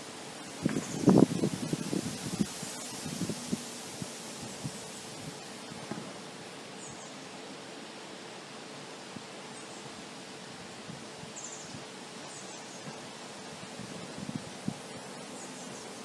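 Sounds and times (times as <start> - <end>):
wind blowing: 0.0 - 6.9, 7.7 - 12.3, 12.9 - 16.0.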